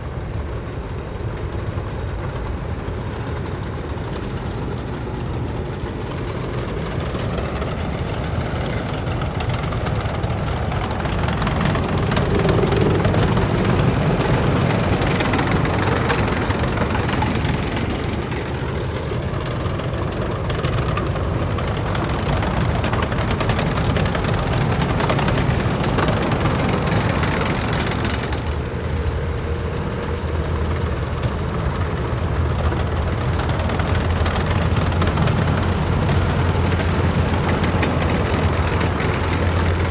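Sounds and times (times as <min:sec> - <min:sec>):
heavy vehicles driving past: 0:06.3 - 0:39.9.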